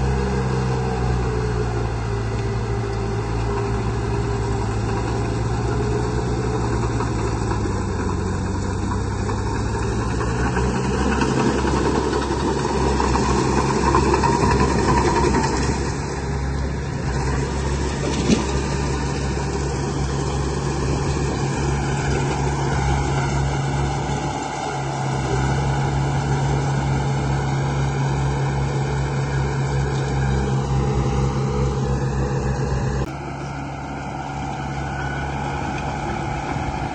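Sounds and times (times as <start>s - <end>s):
model engine droning: 0.0s - 36.9s.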